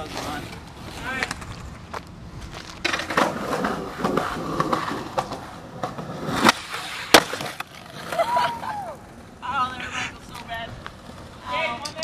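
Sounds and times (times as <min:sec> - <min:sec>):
skateboard wheels rolling on asphalt: 0:00.0 - 0:12.0.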